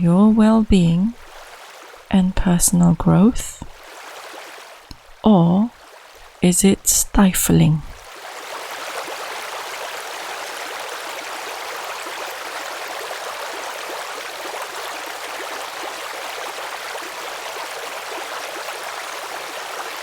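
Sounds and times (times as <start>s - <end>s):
stream running water: 0.0s - 20.0s.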